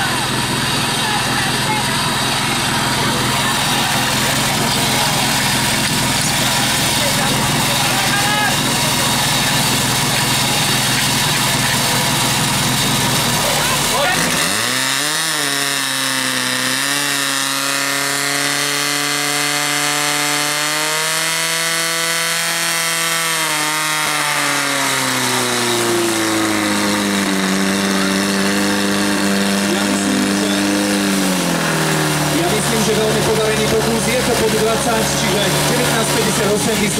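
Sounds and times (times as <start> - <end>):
pump engine running at high revs: 0.0 - 36.9.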